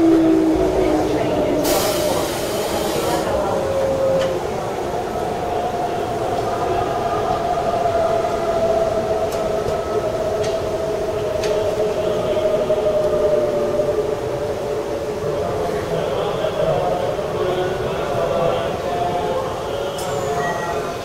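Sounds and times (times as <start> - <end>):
electric train whine: 0.0 - 21.0.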